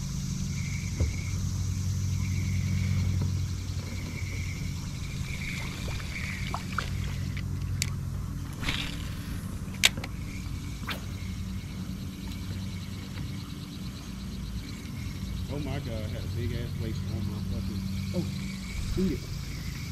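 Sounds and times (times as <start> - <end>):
insects chirping: 0.0 - 19.9
small motor humming: 0.0 - 19.9.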